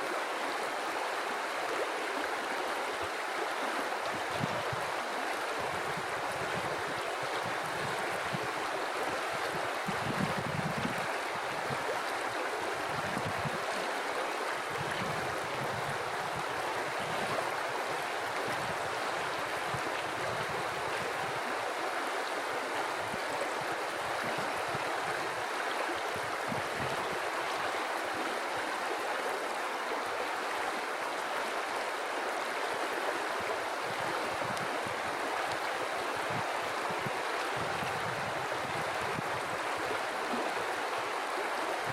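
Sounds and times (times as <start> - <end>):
river water flowing over rocks: 0.0 - 41.9.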